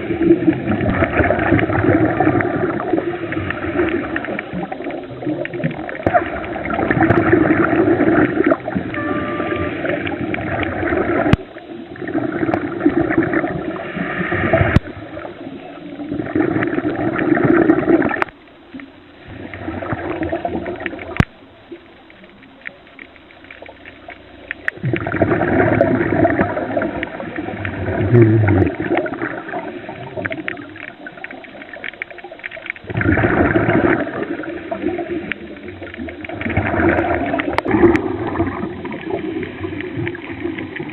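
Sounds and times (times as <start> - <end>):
underwater bubbling and gurgling: 0.0 - 40.9.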